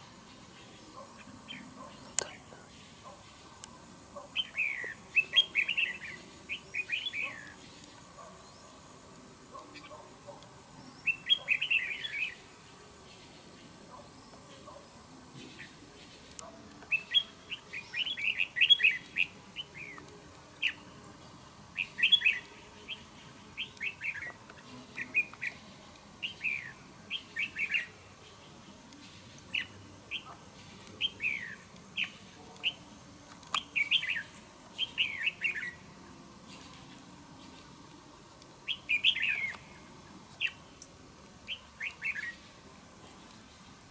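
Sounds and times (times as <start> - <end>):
birds singing chirping whistles: 0.2 - 2.2, 4.2 - 9.0, 9.6 - 32.9, 33.5 - 37.7, 38.6 - 42.5.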